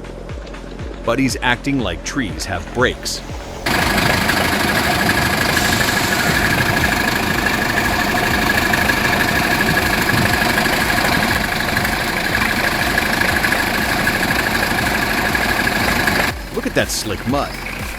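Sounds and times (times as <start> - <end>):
heavy vehicle engine running: 2.1 - 17.9.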